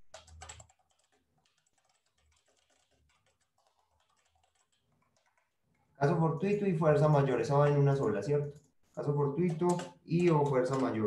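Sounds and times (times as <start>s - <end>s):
typing on computer keyboard: 0.0s - 5.9s, 7.9s - 11.0s.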